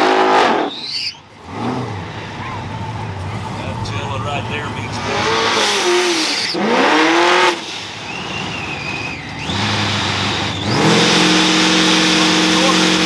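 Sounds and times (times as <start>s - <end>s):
engines idling: 0.0s - 13.0s
race car engine revving: 0.0s - 13.0s.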